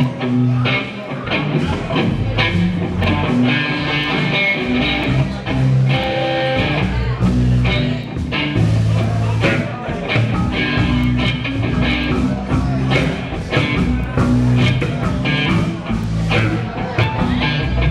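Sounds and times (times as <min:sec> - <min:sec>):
rock band playing instrumental: 0:00.0 - 0:17.9.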